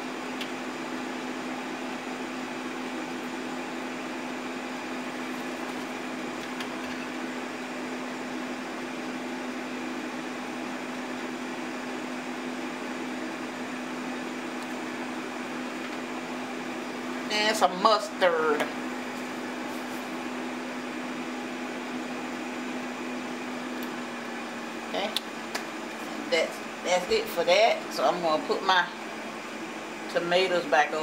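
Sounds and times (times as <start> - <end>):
air fryer fan whirring: 0.0 - 31.0.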